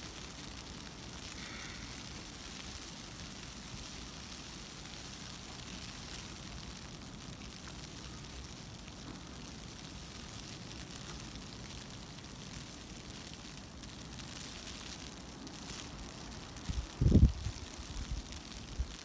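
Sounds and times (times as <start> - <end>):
outdoor hiss and rumble: 0.0 - 19.0.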